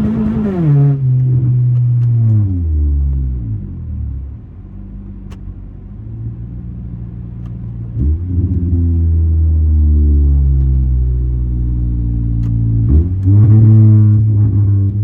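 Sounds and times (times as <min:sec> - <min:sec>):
car engine revving: 0:00.0 - 0:04.4, 0:05.1 - 0:15.0.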